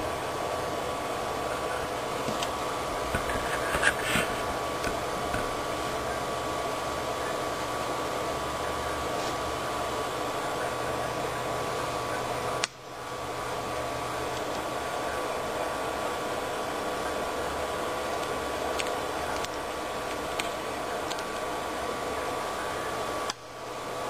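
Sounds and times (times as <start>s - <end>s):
fan-like whirring hiss: 0.0s - 24.0s.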